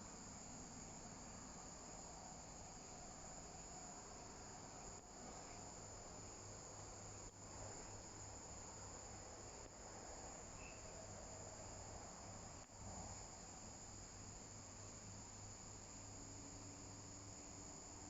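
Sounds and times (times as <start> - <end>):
high-pitched insect trill: 0.0 - 18.0.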